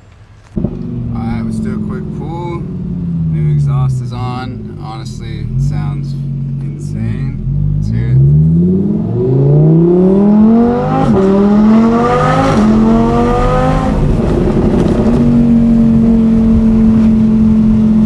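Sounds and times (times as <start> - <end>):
sports car accelerating hard: 0.5 - 18.0.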